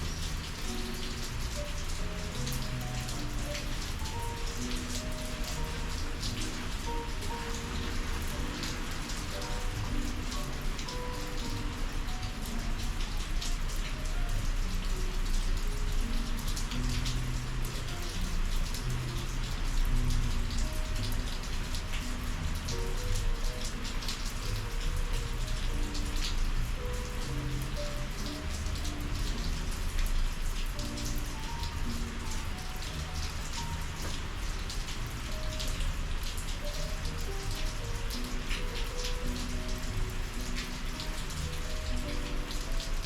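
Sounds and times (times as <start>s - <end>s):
quiet background music: 0.0s - 43.0s
rain falling: 0.0s - 43.0s
raindrop hits: 0.0s - 43.0s.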